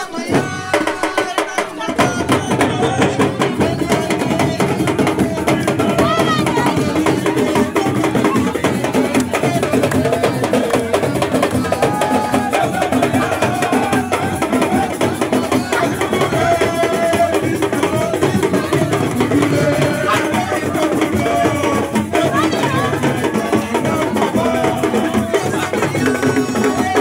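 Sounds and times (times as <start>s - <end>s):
music with drum beat: 0.0s - 27.0s.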